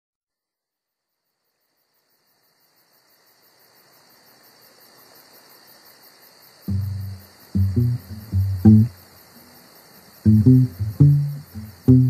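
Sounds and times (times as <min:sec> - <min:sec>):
insects chirring: 0:00.6 - 0:12.0.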